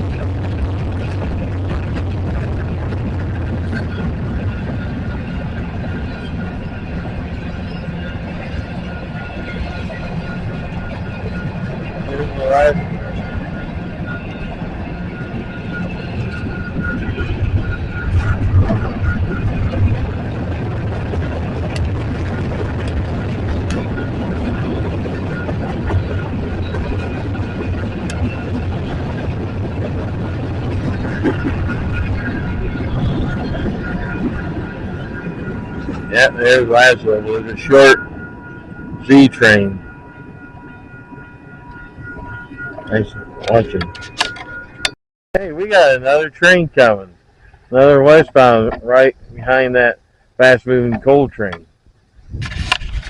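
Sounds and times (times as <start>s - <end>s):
train rumbling and rattling: 0.0s - 53.0s.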